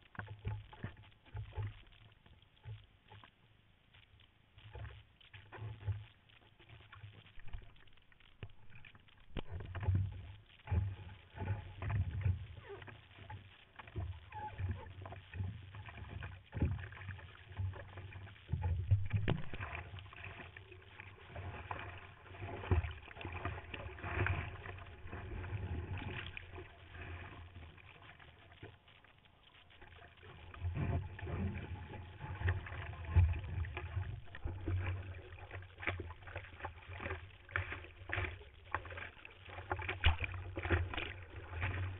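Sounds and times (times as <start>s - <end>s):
sea water sloshing and splashing: 0.0s - 3.5s, 4.6s - 41.9s.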